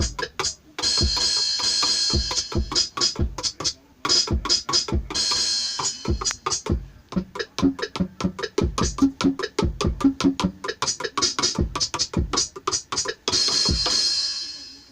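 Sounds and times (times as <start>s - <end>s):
electronic drum pad hits: 0.0s - 14.3s.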